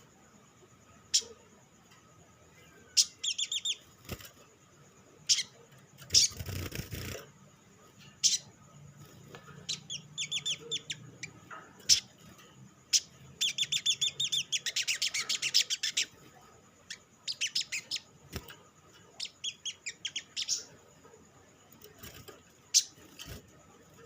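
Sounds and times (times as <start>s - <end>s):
sunbird chirping: 0.0s - 24.0s.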